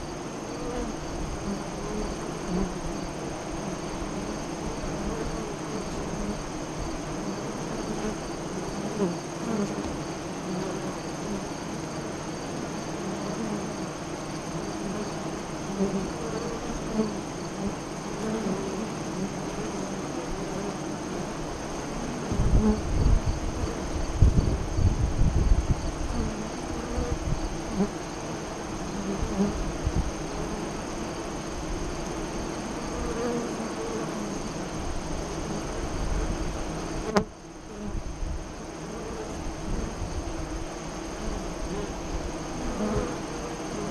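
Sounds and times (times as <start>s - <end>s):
honey bees buzzing: 0.0s - 24.9s, 25.7s - 43.9s.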